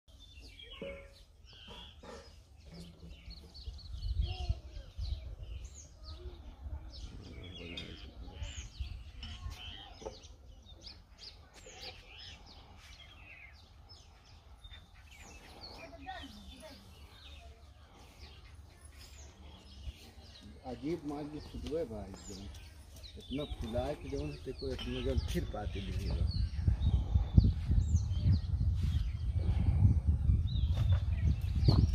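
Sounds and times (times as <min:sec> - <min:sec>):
small birds chirping: 0:00.1 - 0:31.9.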